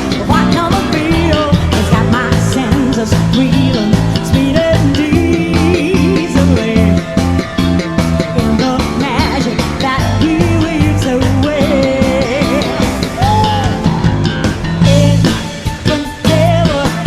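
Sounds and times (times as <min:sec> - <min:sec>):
woman singing: 0:00.0 - 0:07.4, 0:08.2 - 0:13.8, 0:14.8 - 0:17.0
electric bass: 0:00.0 - 0:17.0
jazz fusion band playing: 0:00.0 - 0:17.0.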